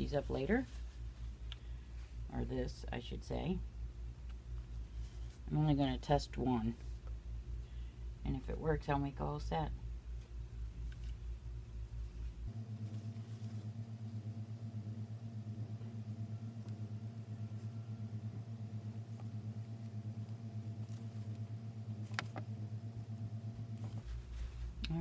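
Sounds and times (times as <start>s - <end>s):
throbbing mechanical hum: 0.0s - 25.0s.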